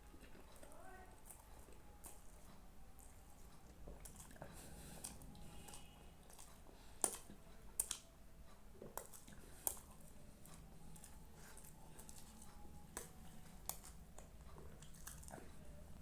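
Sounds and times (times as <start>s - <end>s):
quiet eating sounds: 0.0s - 16.0s.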